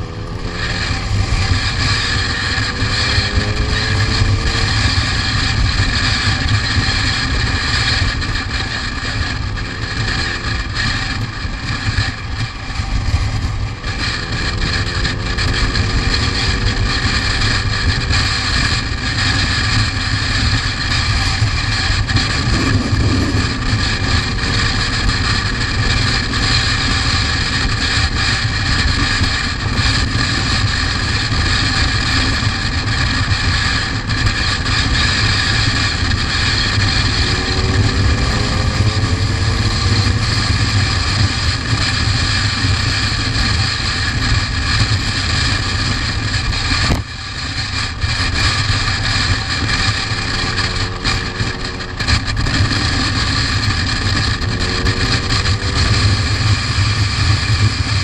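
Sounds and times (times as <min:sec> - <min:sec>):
motorcycle running: 0:00.0 - 0:58.0
road noise: 0:00.0 - 0:58.0
wind rushing over microphone: 0:00.0 - 0:58.0.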